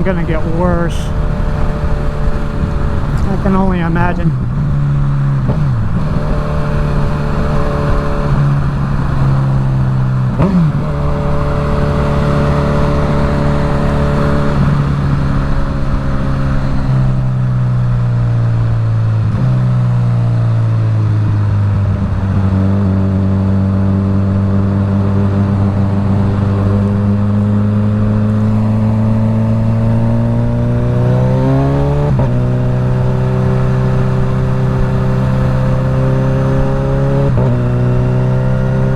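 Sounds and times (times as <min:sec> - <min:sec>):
motorcycle engine accelerating: 0:00.0 - 0:38.9
wind over helmet microphone: 0:00.0 - 0:38.9.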